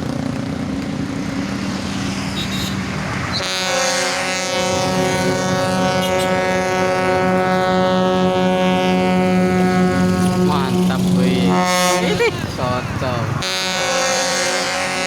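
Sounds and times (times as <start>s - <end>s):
road noise: 0.0s - 15.0s
vehicle engine: 0.0s - 15.0s
air horn blast: 2.1s - 15.0s.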